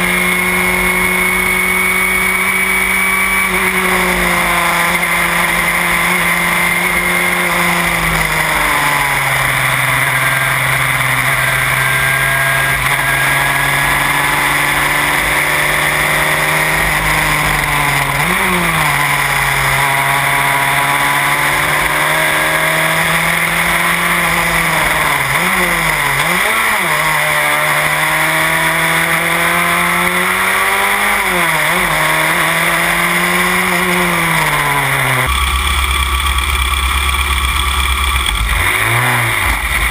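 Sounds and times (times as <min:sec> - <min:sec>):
engine throttle blips: 0:00.0 - 0:39.9
race car engine at high revs: 0:00.0 - 0:39.9
wind and road noise: 0:00.0 - 0:39.9.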